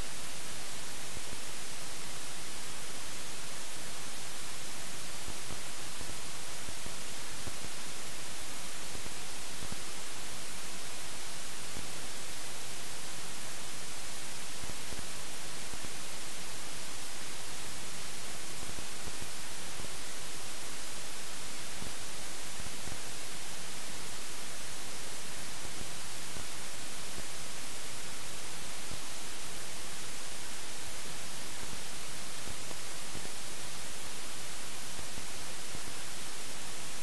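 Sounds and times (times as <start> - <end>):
steady static hiss: 0.0 - 37.0.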